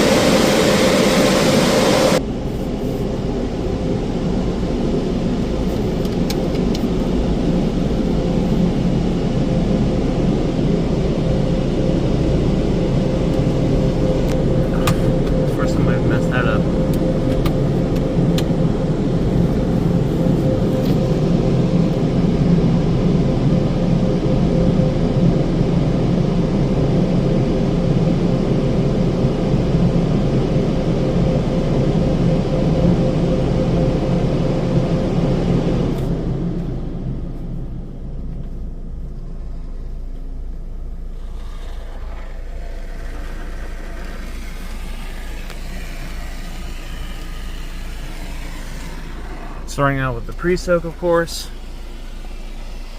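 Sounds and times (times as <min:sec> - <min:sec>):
car wash machinery whining: 0:00.0 - 0:52.9
low rumble: 0:00.0 - 0:52.9.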